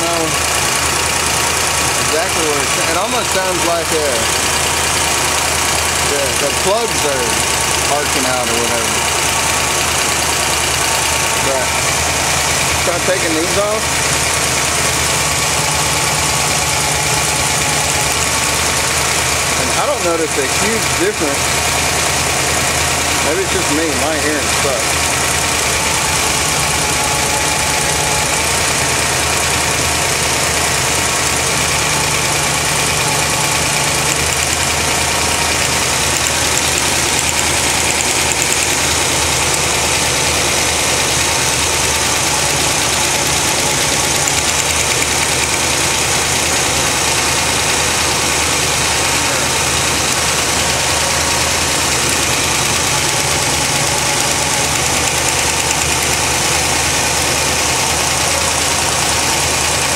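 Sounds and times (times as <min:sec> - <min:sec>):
car engine idling: 0:00.0 - 0:59.9
fast even engine ticking: 0:00.0 - 0:59.9.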